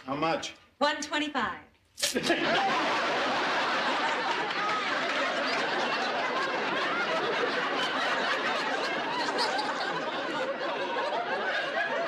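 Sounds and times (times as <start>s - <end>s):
audience laughing: 2.1s - 12.0s.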